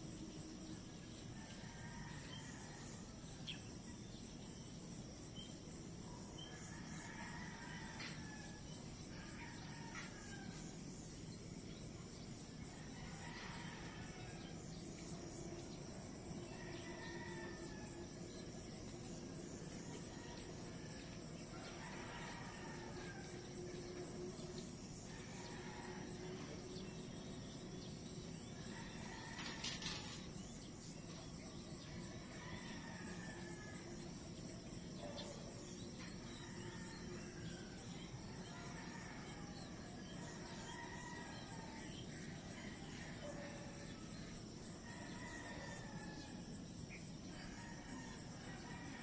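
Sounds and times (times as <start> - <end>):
crickets chirring: 0.0 - 49.0.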